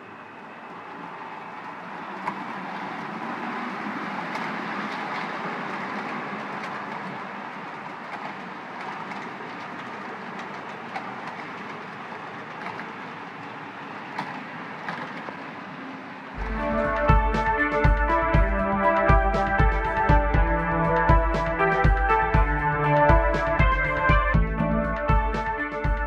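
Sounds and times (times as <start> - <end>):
model train running on rails: 0.0 - 25.9.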